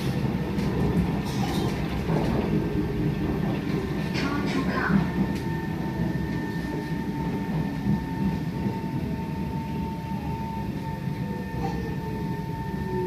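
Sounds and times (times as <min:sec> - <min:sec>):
train rail and wheel rumble: 0:00.0 - 0:13.0.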